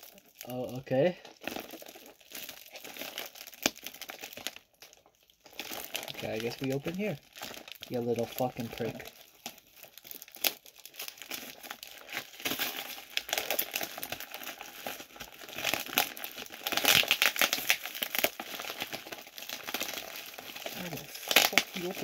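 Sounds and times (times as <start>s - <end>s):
paper wrapping crinkling and tearing: 0.0s - 22.0s.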